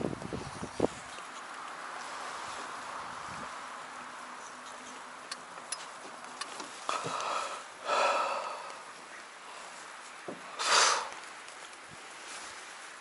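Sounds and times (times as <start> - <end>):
rustling noise: 0.0 - 7.4, 9.0 - 13.0
steady faint hiss: 0.0 - 13.0.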